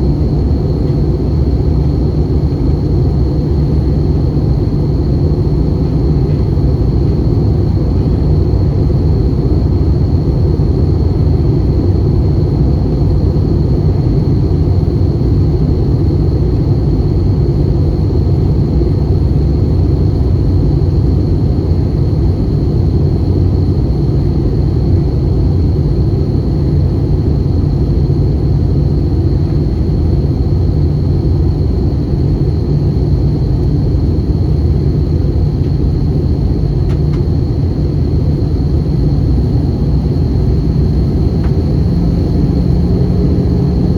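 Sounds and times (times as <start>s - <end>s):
airplane cabin engine rumble: 0.0s - 43.9s.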